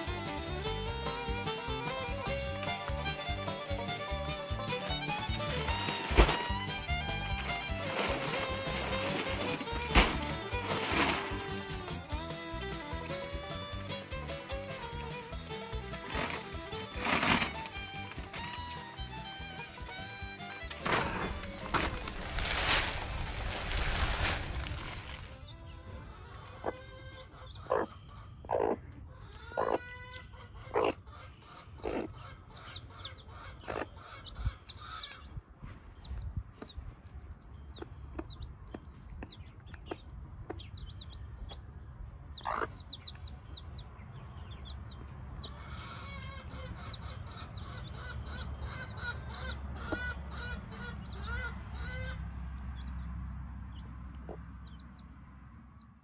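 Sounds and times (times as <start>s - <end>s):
hen clucking: 0.0s - 35.4s, 37.7s - 41.6s, 42.4s - 53.0s, 53.7s - 54.8s
chicks peeping: 0.4s - 55.1s.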